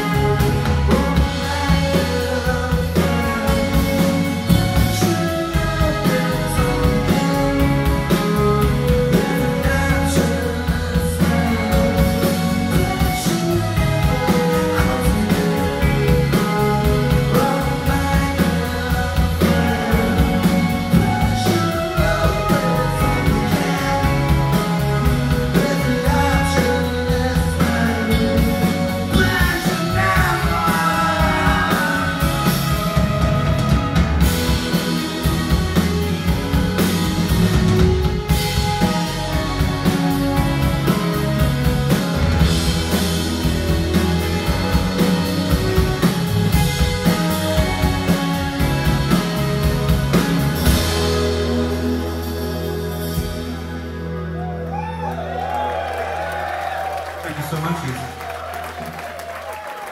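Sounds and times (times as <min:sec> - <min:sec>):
person singing: 0:00.0 - 0:53.2
live rock band playing: 0:00.0 - 0:59.9.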